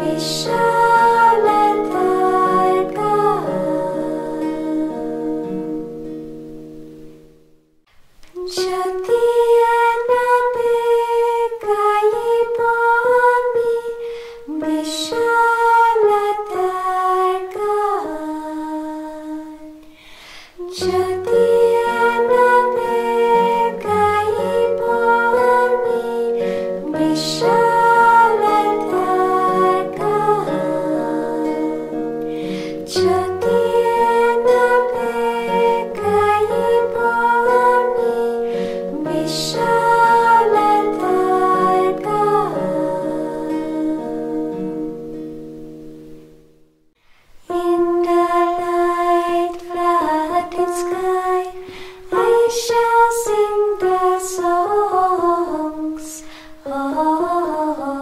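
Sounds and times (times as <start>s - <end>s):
women's group singing in unison: 0.0s - 5.6s, 8.4s - 19.8s, 20.6s - 44.6s, 47.5s - 58.0s.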